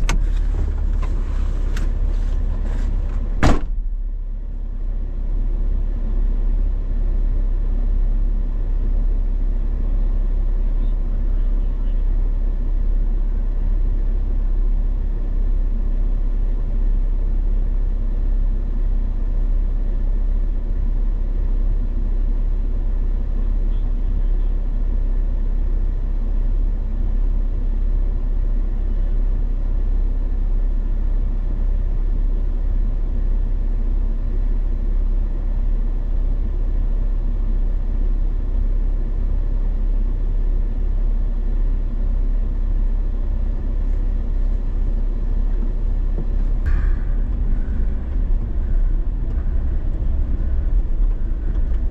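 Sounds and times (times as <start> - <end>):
vehicle engine low rumble: 0.0 - 51.9.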